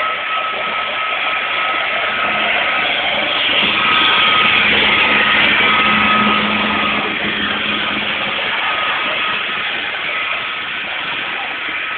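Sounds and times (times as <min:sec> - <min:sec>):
faint high whine: 0:00.0 - 0:11.9
floor scrubber motors whirring: 0:00.0 - 0:11.9
low hum: 0:00.0 - 0:11.9.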